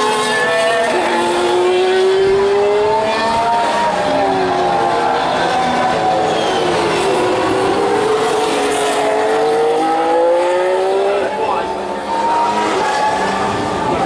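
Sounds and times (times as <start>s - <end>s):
racing cars passing at speed: 0.0s - 14.0s.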